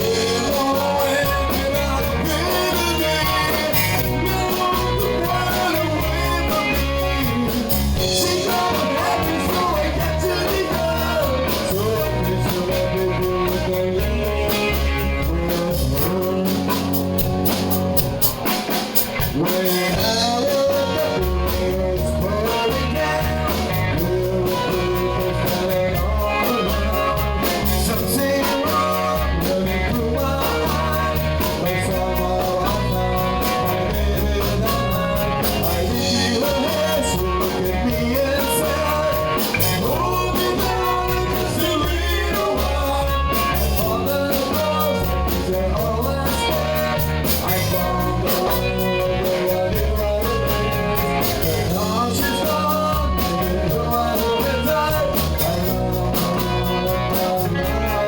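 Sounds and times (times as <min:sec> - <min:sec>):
bass: 0:00.0 - 0:58.0
drums beat: 0:00.0 - 0:58.0
guitar: 0:00.0 - 0:58.0
person singing: 0:00.0 - 0:58.0.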